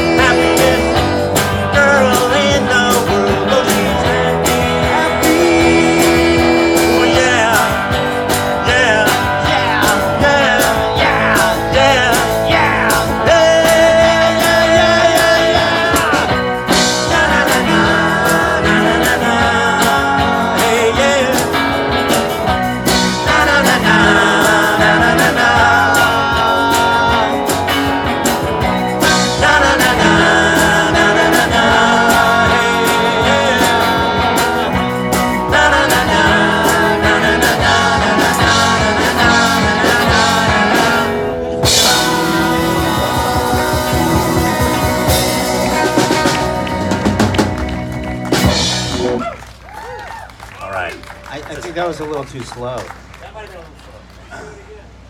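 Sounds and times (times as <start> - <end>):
drum beat: 0.0 - 49.3
live rock band playing: 0.0 - 49.7.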